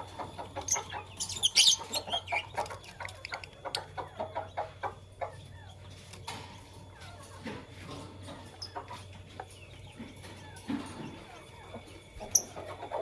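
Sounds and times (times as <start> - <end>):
lovebirds chirping and squawking: 0.0 - 13.0.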